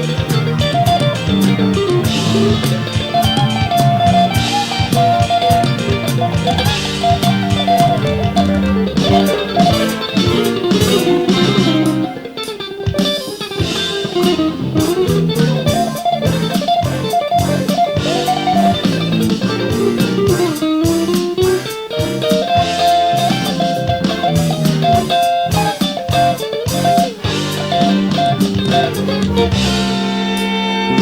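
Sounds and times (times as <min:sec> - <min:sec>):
clean electric guitar playing: 0:00.0 - 0:31.0.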